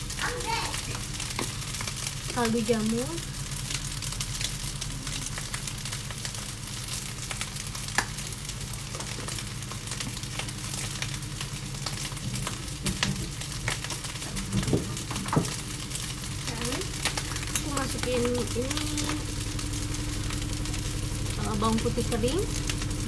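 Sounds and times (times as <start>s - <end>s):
low hum: 0.0s - 23.0s
rice sizzling in a hot pan: 0.0s - 23.0s.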